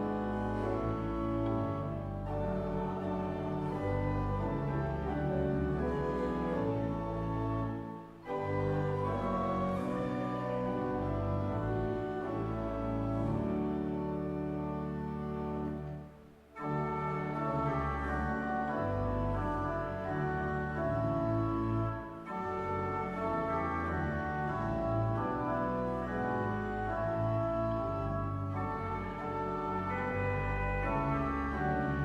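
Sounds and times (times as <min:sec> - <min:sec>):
organ playing held chords: 0:00.0 - 0:32.0.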